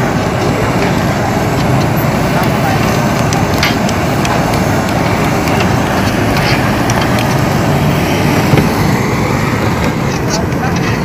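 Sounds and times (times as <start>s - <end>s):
blowtorches burning: 0.0s - 11.0s.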